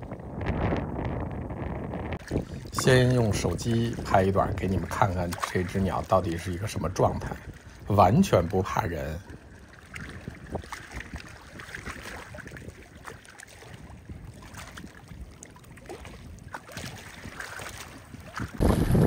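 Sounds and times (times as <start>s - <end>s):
wind buffeting microphone: 0.0s - 19.0s
small waves lapping: 2.2s - 19.0s.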